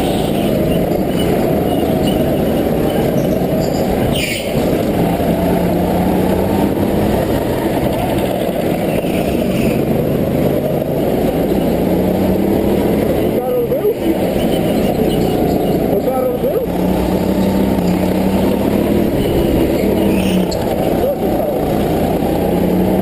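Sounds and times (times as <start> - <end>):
go-kart engine running hard: 0.0 - 23.0
other kart engines: 0.0 - 23.0.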